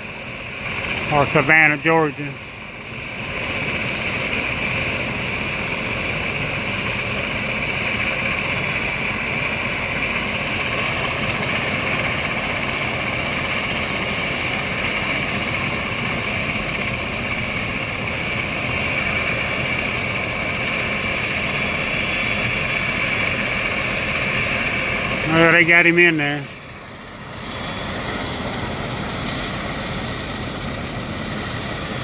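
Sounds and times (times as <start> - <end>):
helicopter turbine whine and rotor: 0.0 - 32.0.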